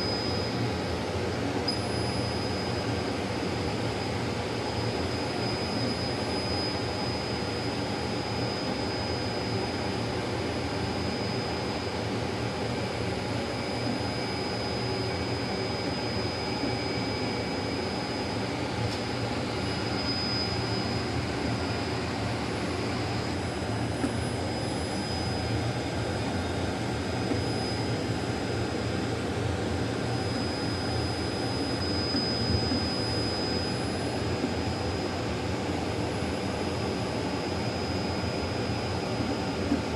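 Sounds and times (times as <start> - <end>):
high constant whine: 0.0 - 39.9
laser printer whirring: 0.0 - 39.9.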